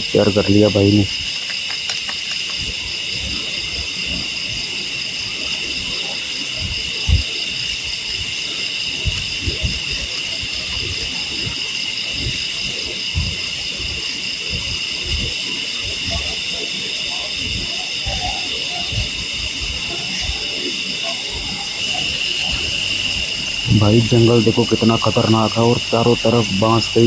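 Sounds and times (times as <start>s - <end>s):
night insects chirring: 0.0s - 27.0s.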